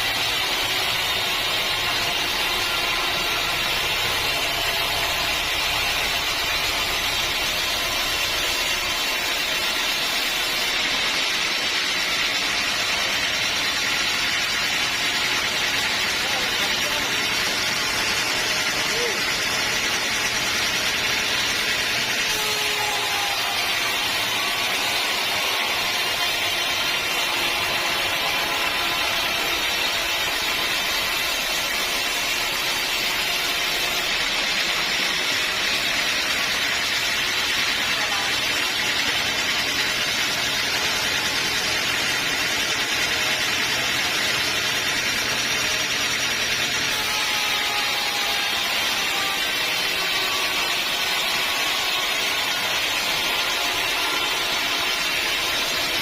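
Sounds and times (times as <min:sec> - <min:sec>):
sawmill blade sawing log: 0:00.0 - 0:56.0.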